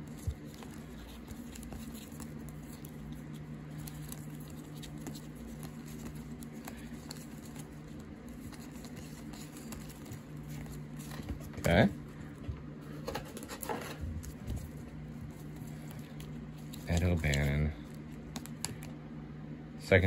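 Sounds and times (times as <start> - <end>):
cards clicking and sliding: 0.0 - 11.9, 12.9 - 19.0
steady low hum: 0.0 - 20.0.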